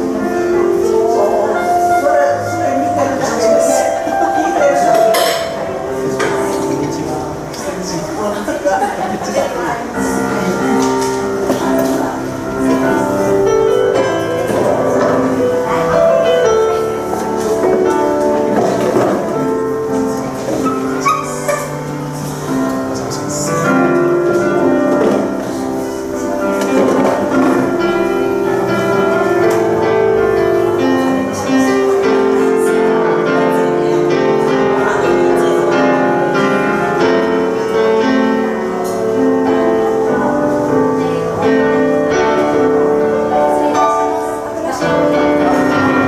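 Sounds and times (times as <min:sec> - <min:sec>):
solo piano piece: 0:00.0 - 0:46.0.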